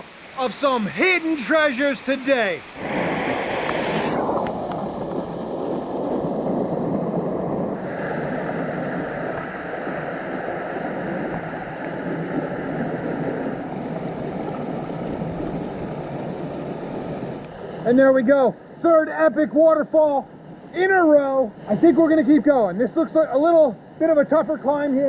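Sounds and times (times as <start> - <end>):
creek water rushing over rocks: 0.0 - 25.0.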